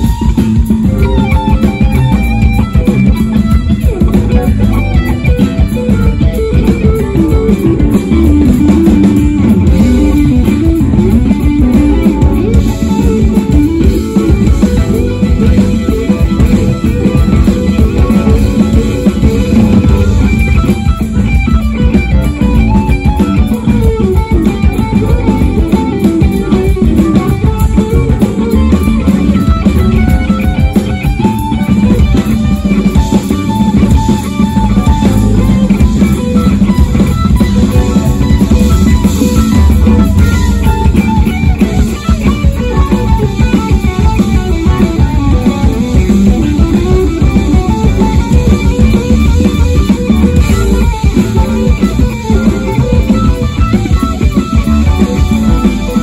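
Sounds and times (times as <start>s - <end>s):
electric guitar lead: 0.0s - 56.0s
jazz fusion band playing: 0.0s - 56.0s.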